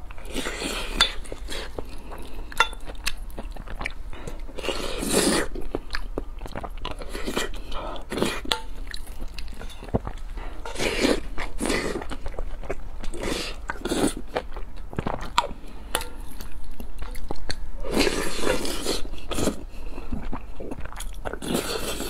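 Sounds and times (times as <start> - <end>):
wet chewing and mouth smacks: 0.0 - 22.0.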